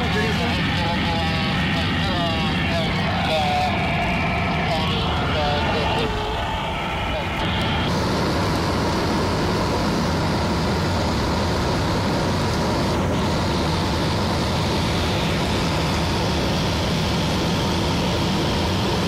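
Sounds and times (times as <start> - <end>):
airflow rushing over glider: 0.0 - 19.0.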